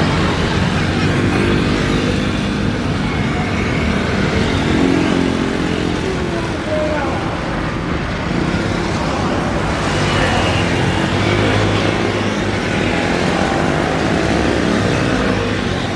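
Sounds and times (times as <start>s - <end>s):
jet engines rumbling at takeoff: 0.0s - 15.9s.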